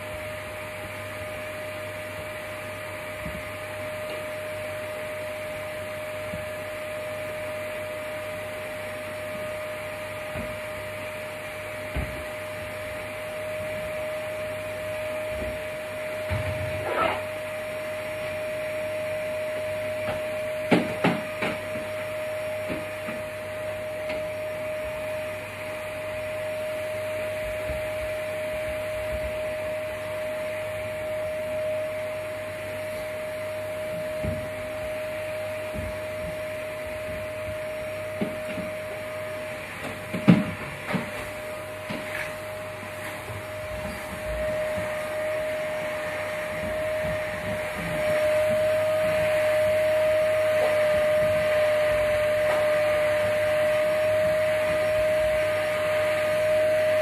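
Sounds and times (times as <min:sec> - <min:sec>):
vacuum cleaner motor whining: 0:00.0 - 0:57.0.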